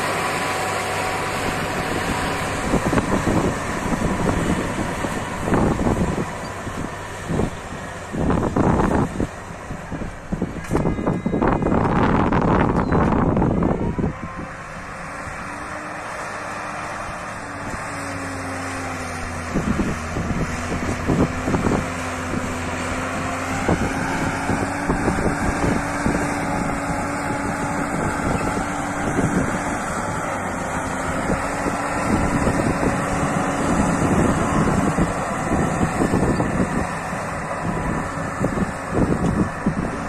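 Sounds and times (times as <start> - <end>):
tractor diesel engine running: 0.0 - 40.0
wind buffeting microphone: 0.5 - 40.0.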